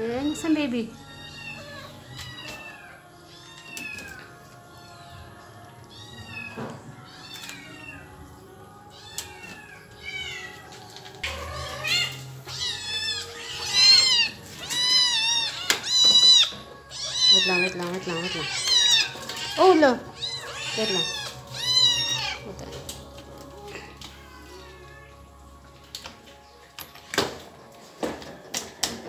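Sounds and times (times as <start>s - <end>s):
cats meowing: 0.0s - 26.2s.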